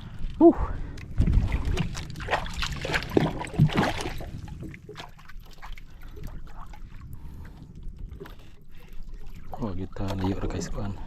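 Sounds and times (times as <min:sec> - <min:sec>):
water splashes: 0:01.2 - 0:11.0.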